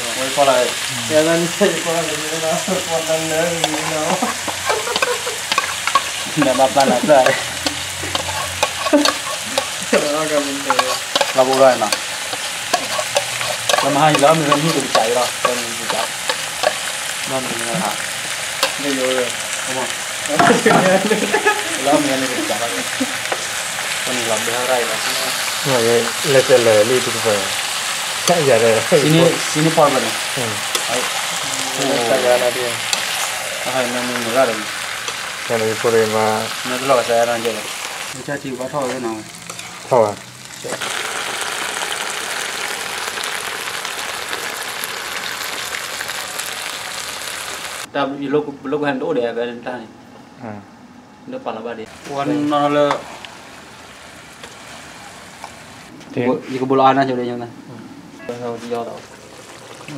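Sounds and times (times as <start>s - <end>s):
meat sizzling in a wok: 0.0s - 47.9s, 51.8s - 55.9s, 58.4s - 59.9s.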